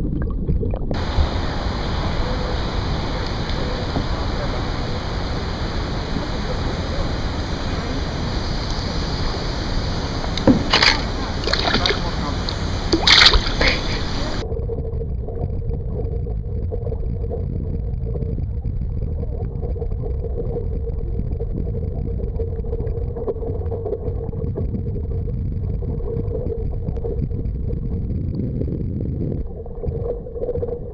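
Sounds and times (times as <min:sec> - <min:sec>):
muffled underwater churning: 0:00.0 - 0:30.9
steady hum: 0:01.0 - 0:27.9.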